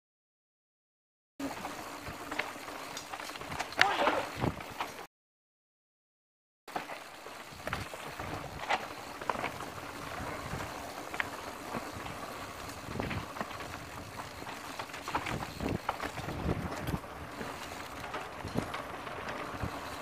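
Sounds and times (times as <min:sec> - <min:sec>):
bike knocking and rattling on bumps: 0:01.4 - 0:05.1, 0:06.7 - 0:20.0
mountain bike tyre and riding noise: 0:01.4 - 0:05.1, 0:06.7 - 0:20.0.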